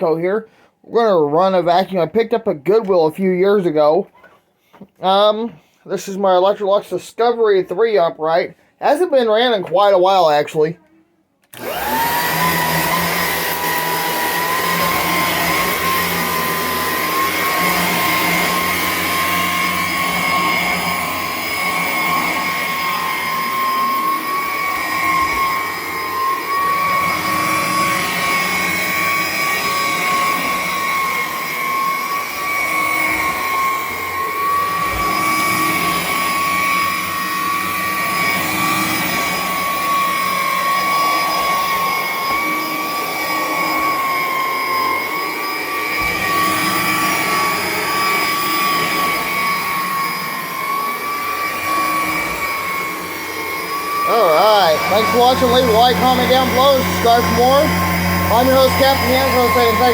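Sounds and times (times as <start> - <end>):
vacuum cleaner running: 11.4 - 59.9.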